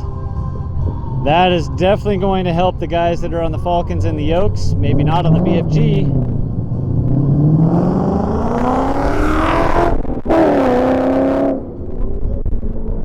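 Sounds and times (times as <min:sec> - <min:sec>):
truck engine accelerating hard: 0:00.0 - 0:12.7.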